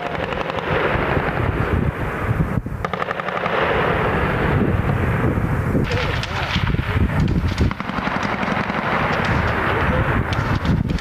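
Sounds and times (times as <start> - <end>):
small-arms and machine-gun fire: 0.0 - 1.9, 2.8 - 5.0, 5.8 - 11.0.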